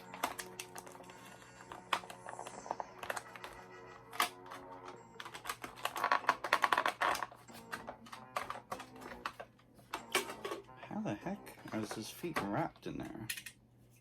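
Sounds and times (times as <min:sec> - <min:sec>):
background music: 0:00.0 - 0:13.3.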